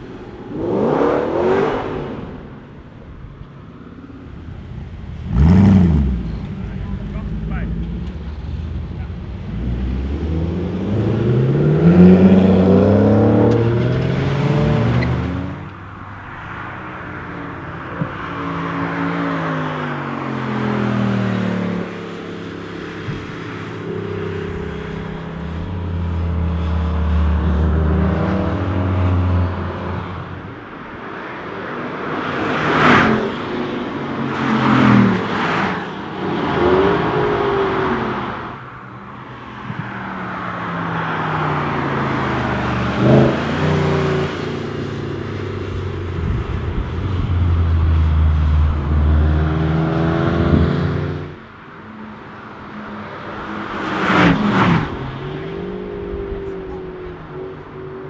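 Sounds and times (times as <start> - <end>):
cars passing quickly: 0.0 - 58.0
sports car engines at full throttle: 0.0 - 58.0.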